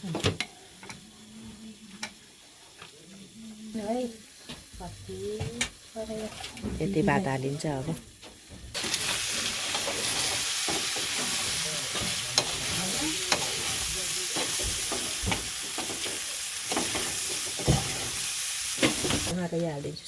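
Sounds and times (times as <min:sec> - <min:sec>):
rice frying in a pan: 0:00.0 - 0:19.7.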